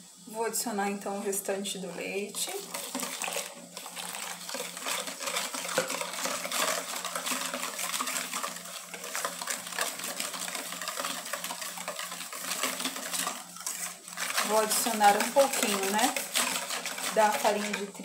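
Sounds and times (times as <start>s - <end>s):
whisk beating in metal bowl: 1.4s - 18.0s.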